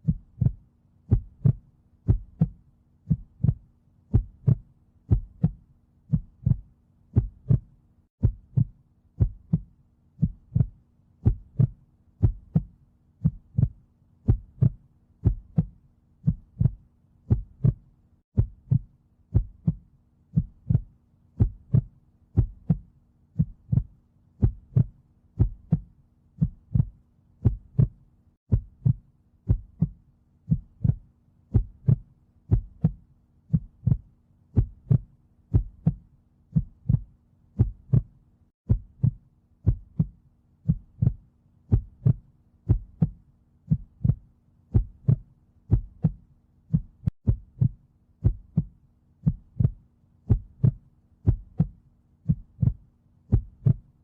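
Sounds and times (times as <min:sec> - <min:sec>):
human heartbeat: 0:00.0 - 0:54.0.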